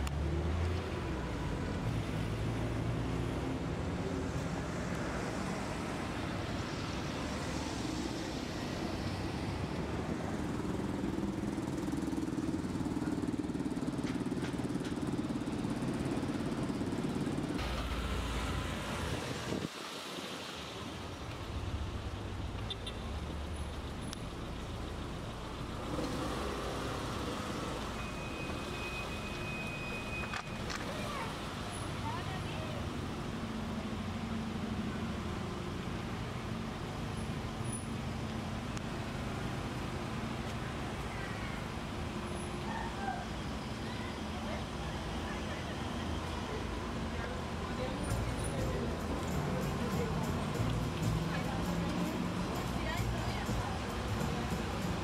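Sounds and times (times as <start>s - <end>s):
city traffic rumble: 0.0s - 55.0s.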